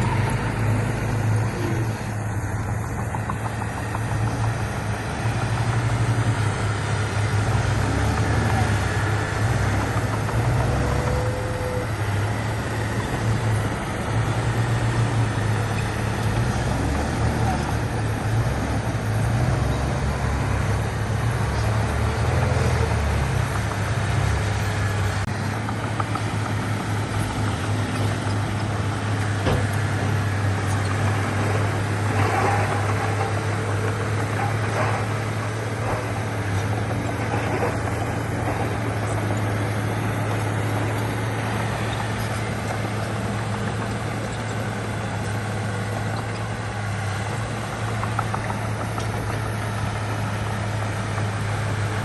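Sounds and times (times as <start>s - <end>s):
diesel engine humming: 0.0s - 52.0s.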